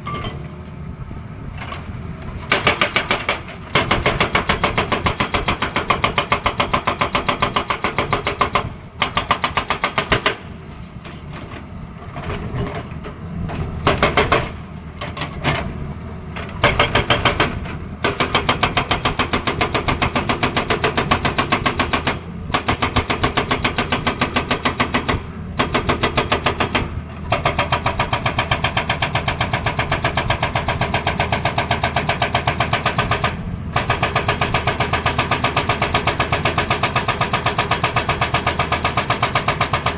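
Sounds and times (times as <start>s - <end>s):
excavator engine running: 0.0s - 39.9s
hydraulic breaker hammer pounding: 1.6s - 39.9s.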